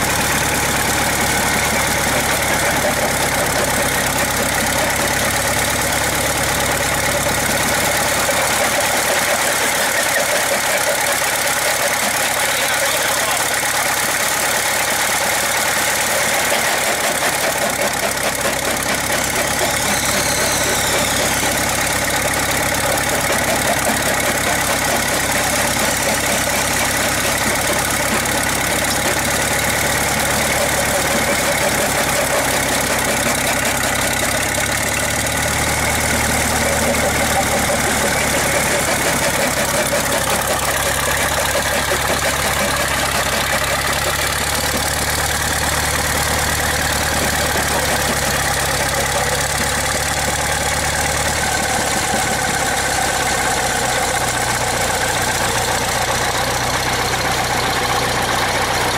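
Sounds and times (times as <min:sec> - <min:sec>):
diesel engine running: 0:00.0 - 0:58.9
rock crusher running: 0:00.0 - 0:58.9.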